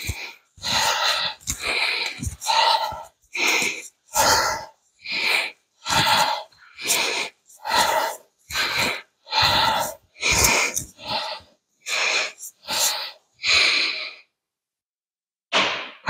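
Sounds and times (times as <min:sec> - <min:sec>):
man breathing hard and fast: 0:00.0 - 0:14.4.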